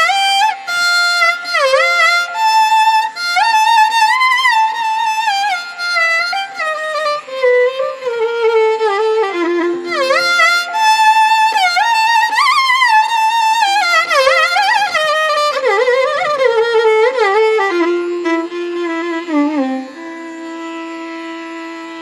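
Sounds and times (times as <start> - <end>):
ornamented instrumental melody: 0.0 - 22.0.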